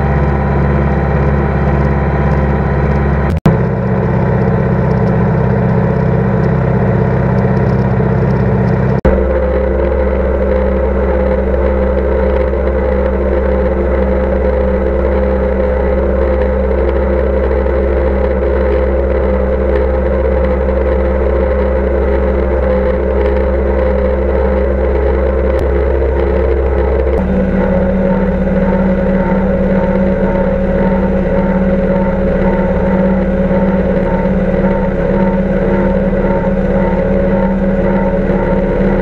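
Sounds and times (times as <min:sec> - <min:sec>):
tractor diesel engine droning: 0:00.0 - 0:39.0.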